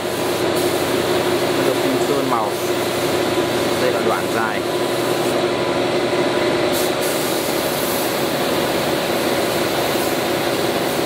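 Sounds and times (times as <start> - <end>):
spray gun hissing: 0.0 - 5.5, 6.7 - 11.0
exhaust fan humming: 0.0 - 11.0.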